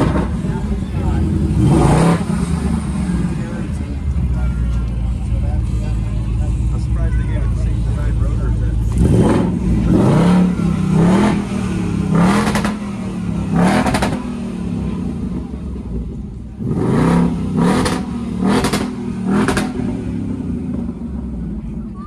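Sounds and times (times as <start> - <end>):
car engine revving: 0.0 - 21.9
car engine idling: 0.0 - 22.0.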